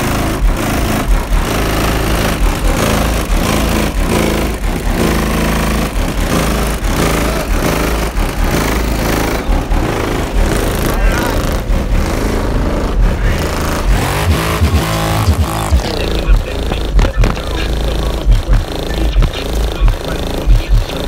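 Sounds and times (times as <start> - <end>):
distorted bass-heavy hip-hop: 0.0 - 21.0.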